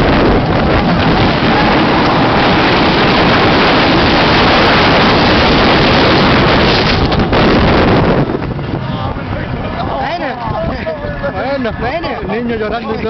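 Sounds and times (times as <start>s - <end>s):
roller coaster rumbling on track: 0.0s - 13.0s
wind on microphone: 0.0s - 13.0s.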